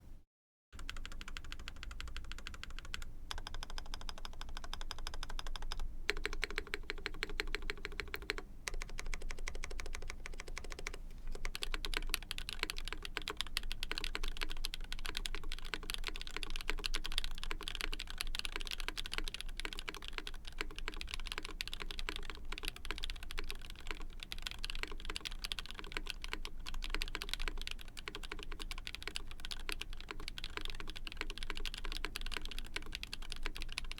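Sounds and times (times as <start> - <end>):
mechanical keyboard typing: 0.8 - 33.9.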